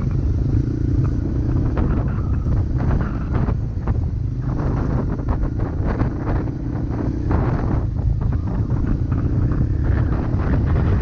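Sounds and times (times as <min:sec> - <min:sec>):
dirt bike engine running: 0:00.0 - 0:11.0
wind buffeting microphone: 0:00.0 - 0:11.0.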